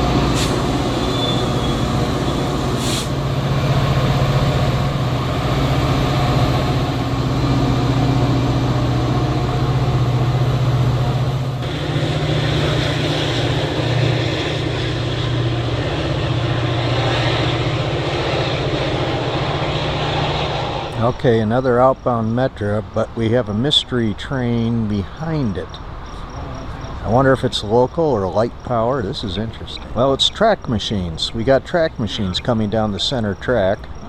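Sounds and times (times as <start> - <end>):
diesel train engine droning: 0.0 - 34.0
rail and wheel noise: 0.0 - 34.0.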